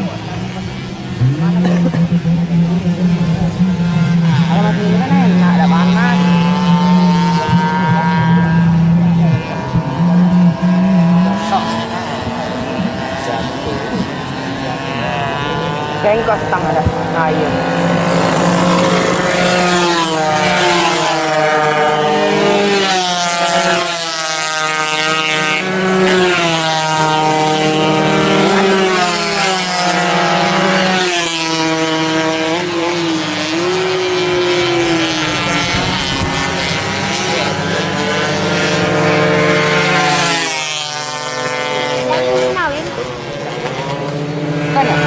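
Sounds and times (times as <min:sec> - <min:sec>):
racing motorcycles revving: 0:00.0 - 0:45.0.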